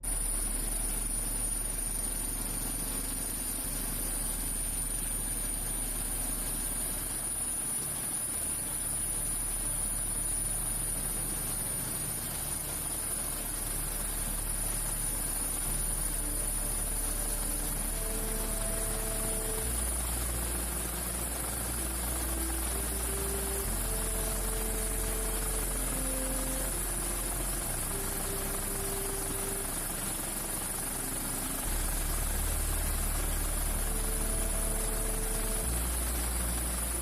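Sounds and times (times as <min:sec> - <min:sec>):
high-pitched whine: 0:00.0 - 0:37.0
helicopter engine and rotor: 0:00.1 - 0:37.0.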